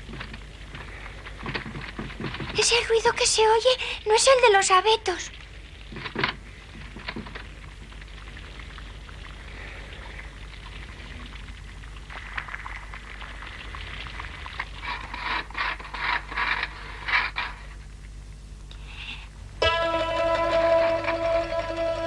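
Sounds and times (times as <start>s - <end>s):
faint rustling hiss: 0.0s - 22.0s.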